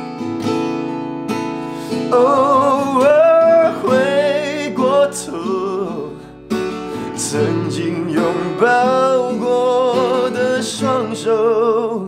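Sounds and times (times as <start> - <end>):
strummed acoustic guitar: 0.0 - 12.0
man singing a slow ballad: 1.9 - 12.0.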